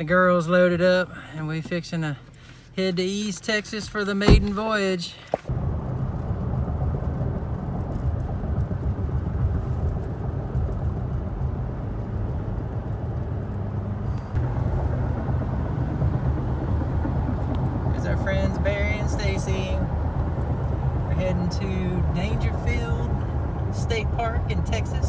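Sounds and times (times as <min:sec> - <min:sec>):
road and engine rumble in cab: 0:00.0 - 0:25.0.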